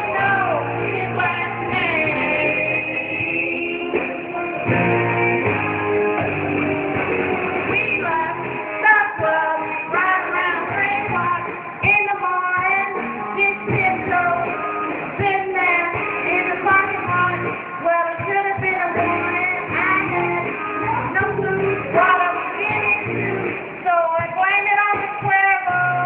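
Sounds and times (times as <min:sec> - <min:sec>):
woman singing: 0:00.0 - 0:05.5, 0:07.6 - 0:26.0
rock backing music: 0:00.0 - 0:26.0.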